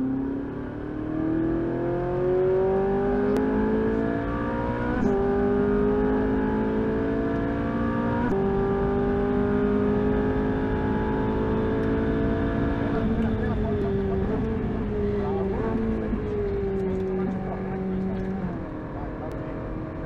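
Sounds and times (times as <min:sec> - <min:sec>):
car engine at full throttle: 0:00.0 - 0:20.0.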